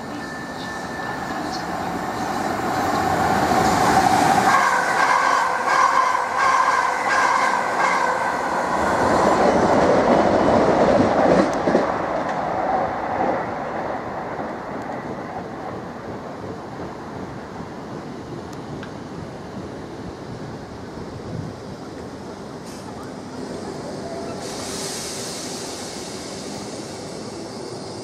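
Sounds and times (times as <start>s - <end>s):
high whine of train: 0.0s - 28.0s
train rumble: 0.0s - 28.0s.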